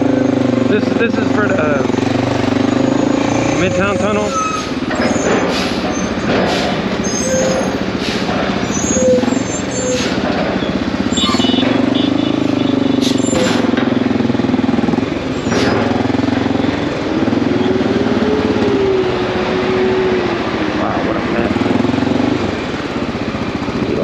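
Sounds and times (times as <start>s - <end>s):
large vehicle engines: 0.0s - 24.0s
motorcycle engine running: 0.0s - 24.0s.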